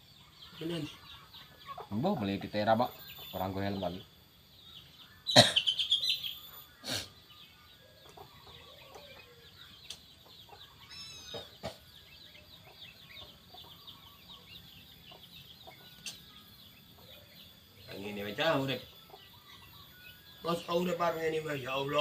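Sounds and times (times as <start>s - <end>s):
faint bird calls and chirps: 0.0s - 22.0s
sharp bird calls: 0.0s - 22.0s.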